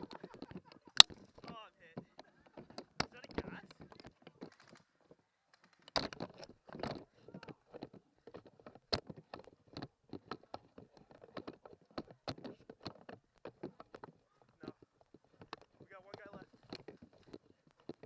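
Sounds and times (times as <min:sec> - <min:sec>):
rifle and gear rattling: 0:02.2 - 0:18.0.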